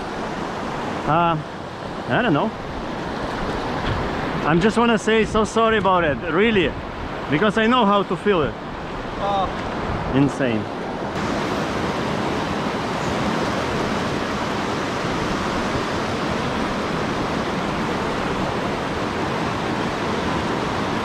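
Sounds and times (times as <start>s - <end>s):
river rushing through rapid: 0.0s - 21.0s.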